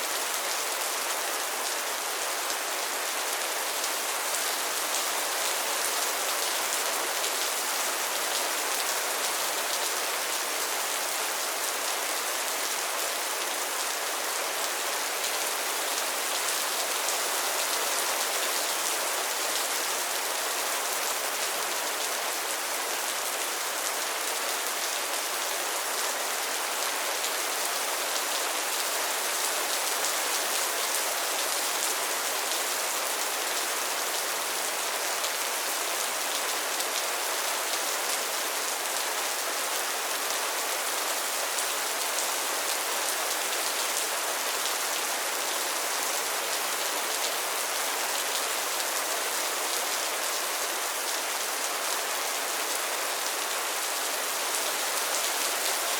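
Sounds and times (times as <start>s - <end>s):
rain on pond and leaves: 0.0s - 55.9s.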